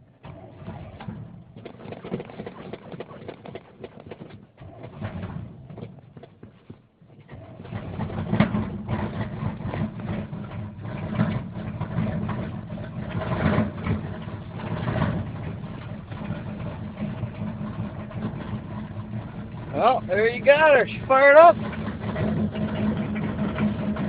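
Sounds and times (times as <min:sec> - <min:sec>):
truck engine starting and running roughly: 0:00.0 - 0:24.0.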